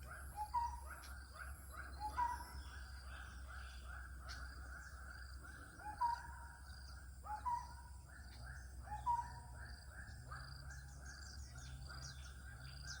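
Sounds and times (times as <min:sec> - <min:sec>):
pulsed bird calls chorus: 0:00.0 - 0:13.0.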